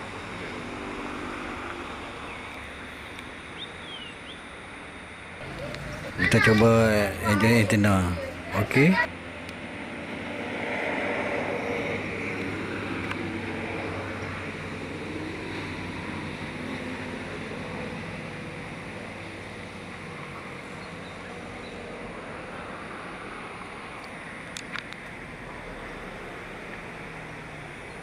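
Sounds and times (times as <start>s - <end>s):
faint engine-like hum: 0.0s - 28.0s.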